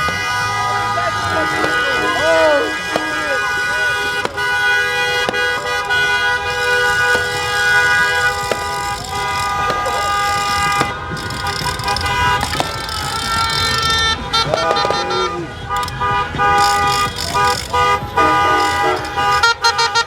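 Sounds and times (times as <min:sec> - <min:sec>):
car horns honking: 0:00.0 - 0:20.0
voices shouting: 0:00.0 - 0:20.0.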